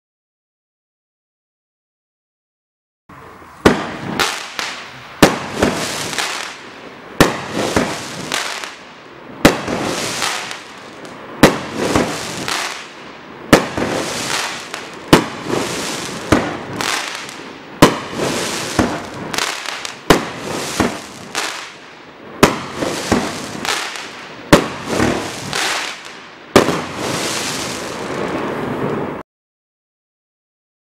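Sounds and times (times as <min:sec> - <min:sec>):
crackle and hiss of stars: 0:03.2 - 0:29.2
firework shots firing: 0:03.6 - 0:29.0.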